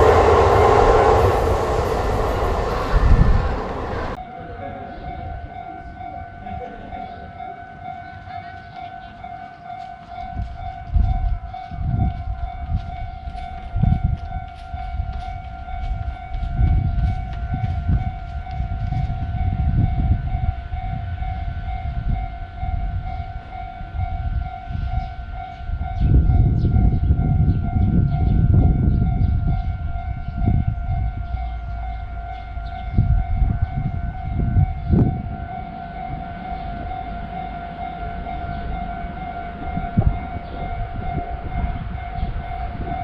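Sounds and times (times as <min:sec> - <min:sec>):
railroad crossing alarm tone: 0:00.0 - 0:43.0.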